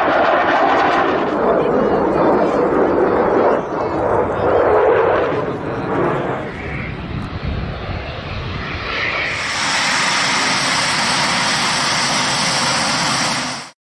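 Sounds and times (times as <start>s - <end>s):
jet engine rush: 0.0s - 13.8s.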